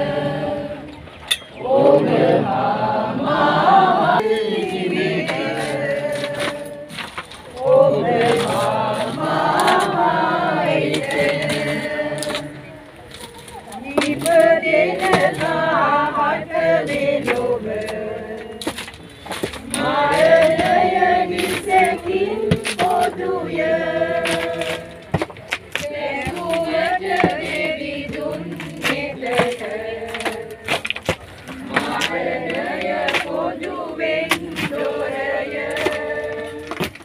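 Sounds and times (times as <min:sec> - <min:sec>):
choir singing: 0:00.0 - 0:18.8, 0:19.6 - 0:25.1, 0:25.8 - 0:36.9.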